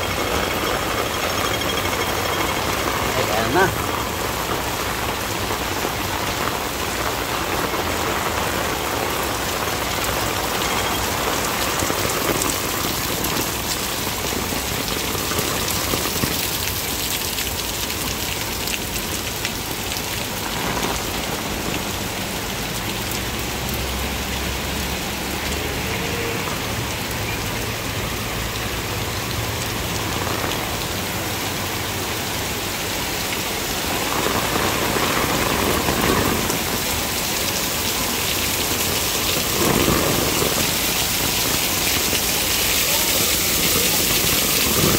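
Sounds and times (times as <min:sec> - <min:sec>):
torrential rain on road: 0:00.0 - 0:44.9.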